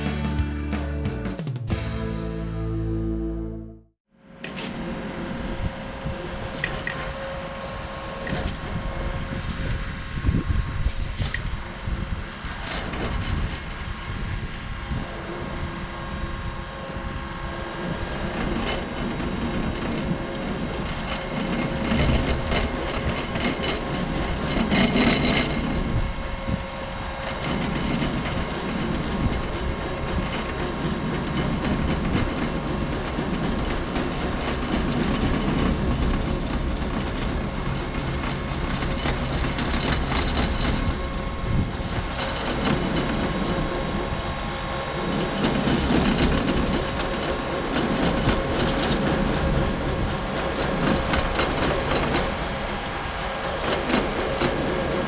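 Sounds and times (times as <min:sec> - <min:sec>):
track loader engine running: 0:00.0 - 0:10.6, 0:16.7 - 0:55.0.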